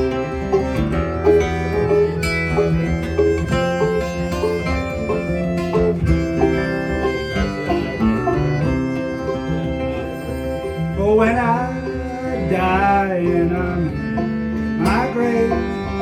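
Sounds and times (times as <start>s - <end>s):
held accordion notes: 0.0s - 16.0s
plucked banjo and guitar: 0.0s - 16.0s.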